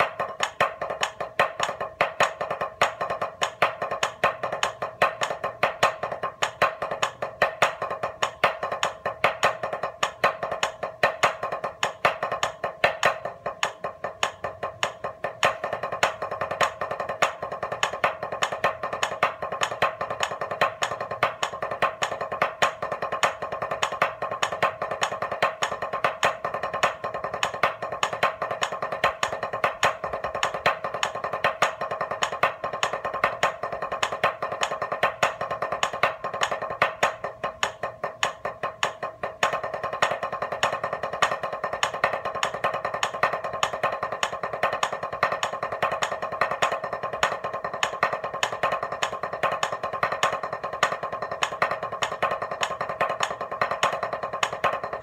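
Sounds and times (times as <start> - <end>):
drumstick strokes: 0.0 - 55.0.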